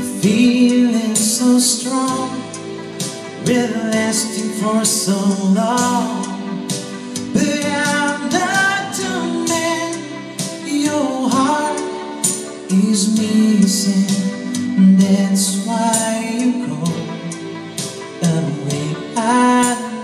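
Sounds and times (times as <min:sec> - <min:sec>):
man singing into microphone: 0:00.0 - 0:02.7, 0:03.4 - 0:17.5, 0:18.2 - 0:20.0
electronic keyboard: 0:00.0 - 0:20.0.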